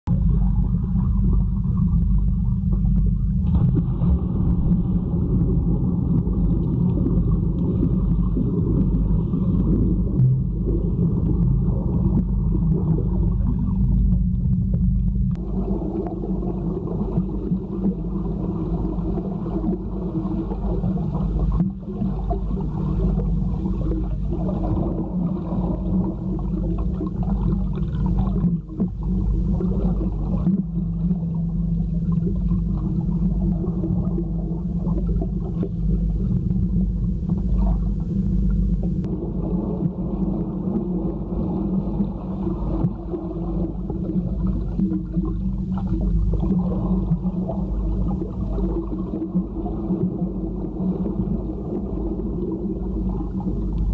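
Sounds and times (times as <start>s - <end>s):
underwater low rumble and hum: 0.0s - 53.9s
gurgling water: 0.1s - 53.9s.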